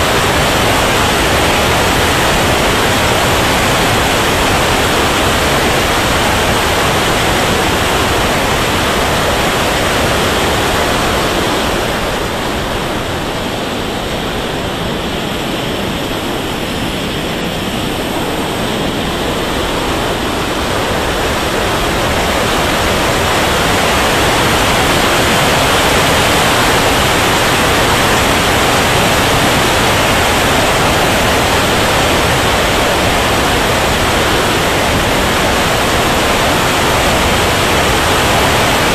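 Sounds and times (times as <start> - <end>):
jet engine and airflow roar: 0.0 - 38.9.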